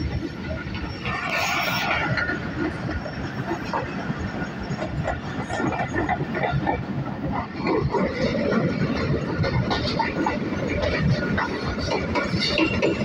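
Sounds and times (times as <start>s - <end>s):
clickety-clack of train wheels: 0.0s - 13.0s
train wheels rumbling on rail: 0.0s - 13.0s.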